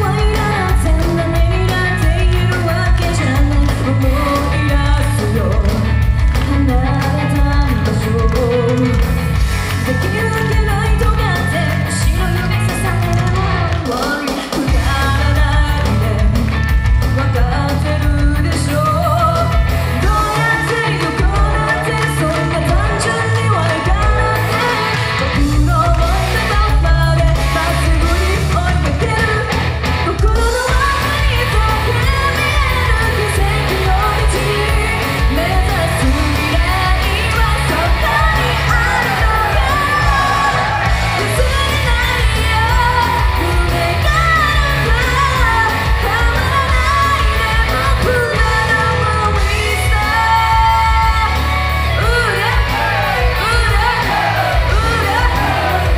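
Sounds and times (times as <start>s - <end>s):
woman singing into a microphone: 0.0s - 9.2s, 9.8s - 55.9s
pop backing track: 0.0s - 55.9s.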